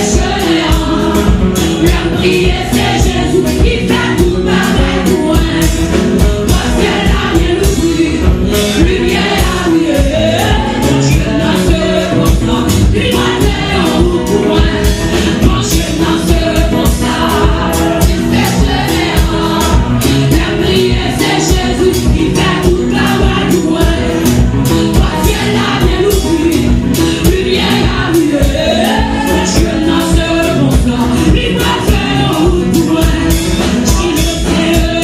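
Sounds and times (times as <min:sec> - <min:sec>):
accompaniment with steady beat: 0:00.0 - 0:35.0
woman singing into microphone: 0:00.0 - 0:35.0
women singing along: 0:00.0 - 0:35.0.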